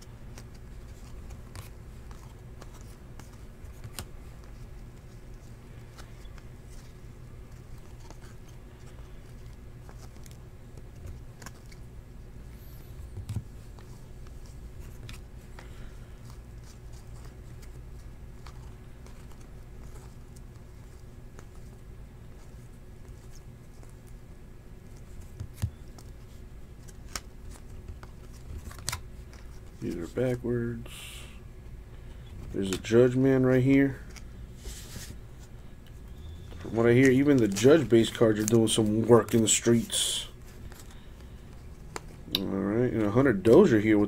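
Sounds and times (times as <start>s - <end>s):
trading cards flipping and sliding: 0.0s - 30.8s, 32.1s - 43.8s
steady low hum: 0.0s - 44.0s.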